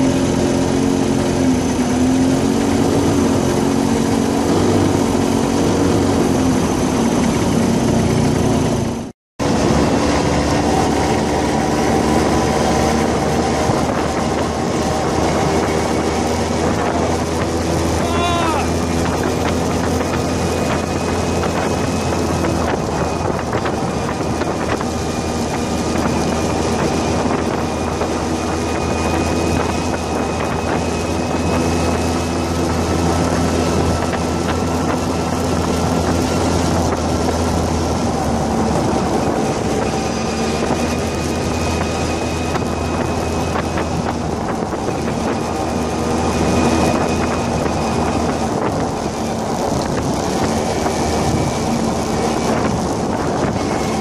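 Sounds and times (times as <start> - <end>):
go-kart engine running: 0.0 - 54.0
road and wind noise: 0.0 - 54.0.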